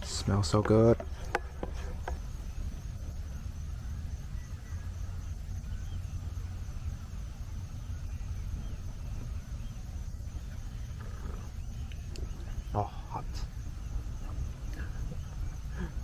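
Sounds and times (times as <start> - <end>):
faint chirping: 0.0 - 16.0
steady low rumble: 0.0 - 16.0.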